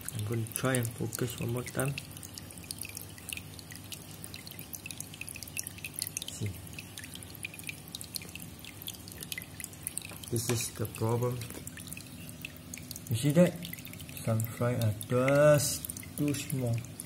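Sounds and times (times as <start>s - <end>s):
low steady hum: 0.0s - 17.0s
water dripping and bubbling: 0.0s - 17.0s.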